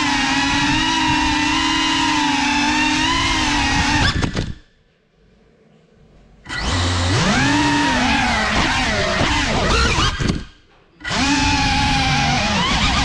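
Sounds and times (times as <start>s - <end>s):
drone motors whining: 0.0s - 4.7s, 6.5s - 13.0s.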